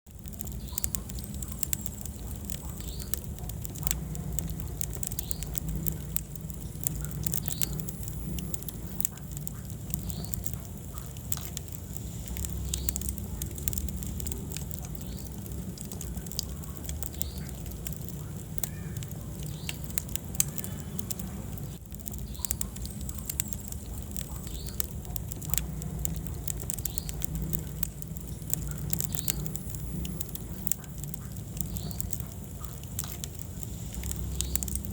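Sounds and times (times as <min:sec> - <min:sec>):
fire crackling and popping: 0:00.0 - 0:34.9
fire flames rumbling: 0:00.0 - 0:34.9.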